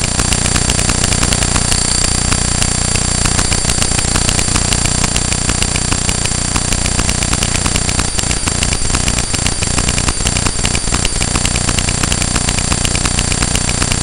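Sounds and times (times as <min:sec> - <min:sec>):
electrical buzz with high whine: 0:00.0 - 0:14.0.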